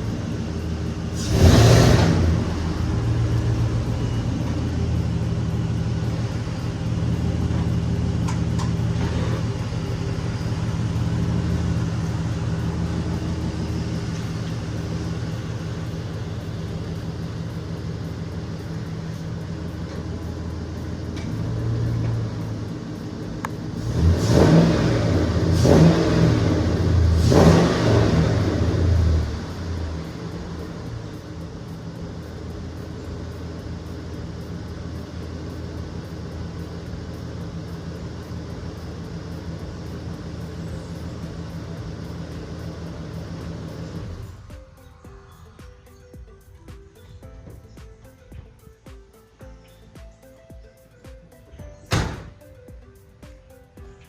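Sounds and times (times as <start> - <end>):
v eight engine idling and revving: 0.0 - 48.6.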